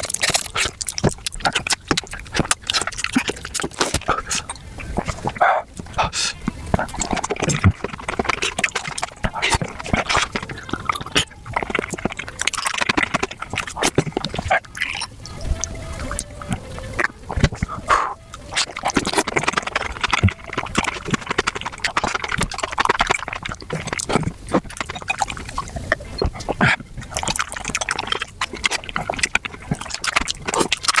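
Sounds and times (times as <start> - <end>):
sped-up chewing and slurping: 0.0 - 31.0.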